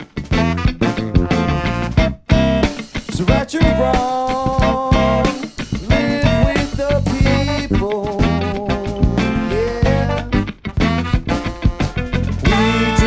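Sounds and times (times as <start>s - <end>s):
funk band playing live: 0.0s - 13.0s.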